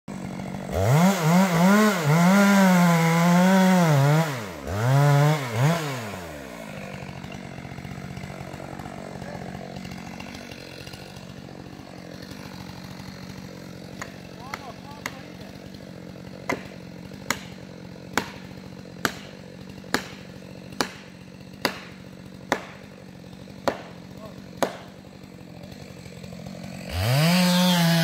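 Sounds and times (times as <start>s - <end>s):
chainsaw running: 0.1s - 28.0s.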